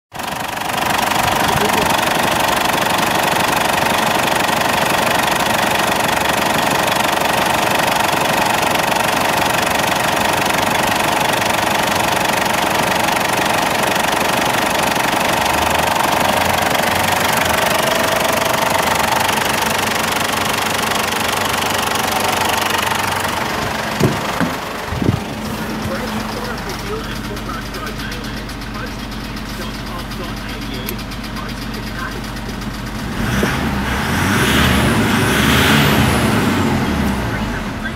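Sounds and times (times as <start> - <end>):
diesel engine running: 0.1 - 37.9.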